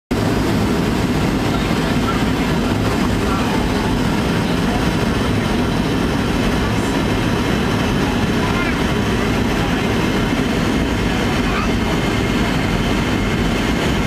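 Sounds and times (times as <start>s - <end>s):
airplane cabin engine rumble: 0.1s - 14.0s.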